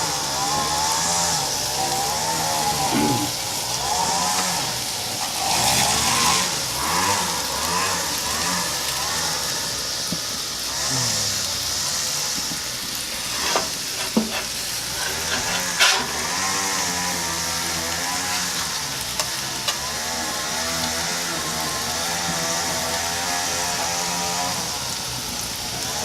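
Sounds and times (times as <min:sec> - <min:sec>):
food sizzling on a griddle: 0:00.0 - 0:26.0.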